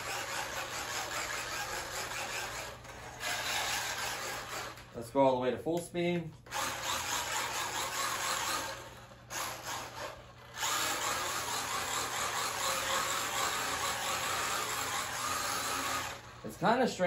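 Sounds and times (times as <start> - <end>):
electric motor whirring: 0.0 - 5.0, 6.5 - 16.6.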